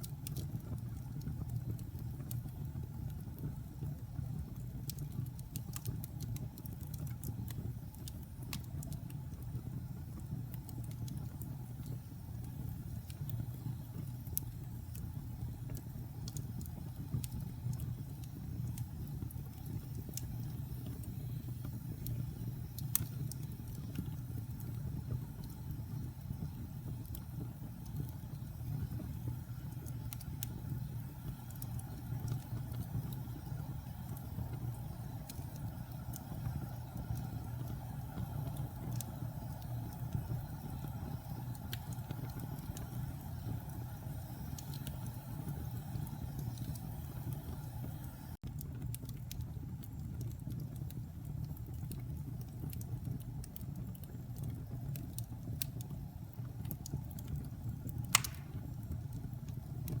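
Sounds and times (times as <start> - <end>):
fire popping: 0.0 - 60.0
wood fire crackling: 0.0 - 60.0.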